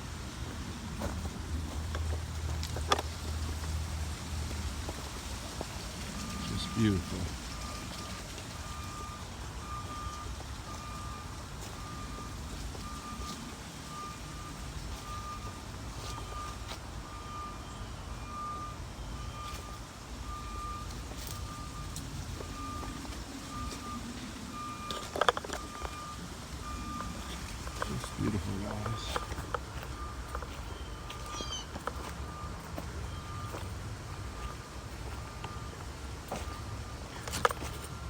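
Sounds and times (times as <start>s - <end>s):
vehicle backup alarm beeping: 0.0s - 38.0s.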